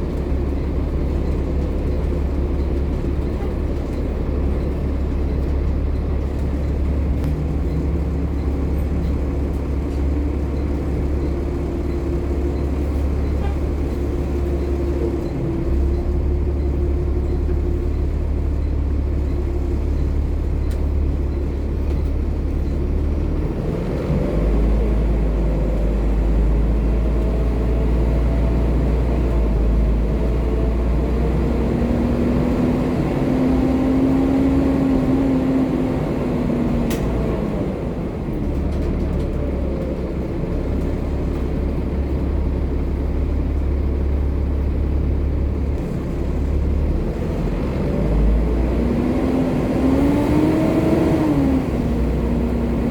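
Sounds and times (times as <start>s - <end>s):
bus diesel engine drone: 0.0s - 52.9s.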